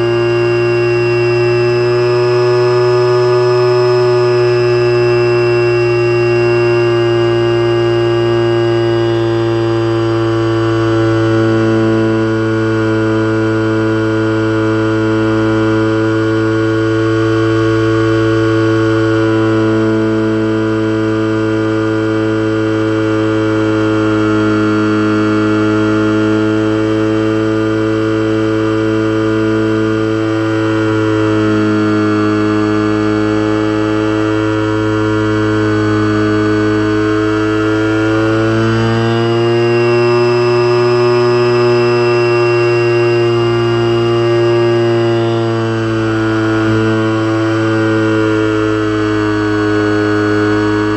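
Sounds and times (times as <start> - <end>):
electric motor and propeller whine: 0.0 - 50.9.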